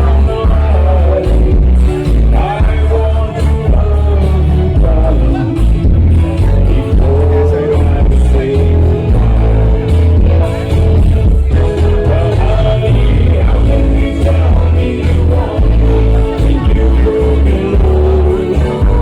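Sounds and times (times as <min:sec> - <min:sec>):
amplified music with sung vocal: 0:00.0 - 0:19.0
heavy pulsing bass line: 0:00.0 - 0:19.0.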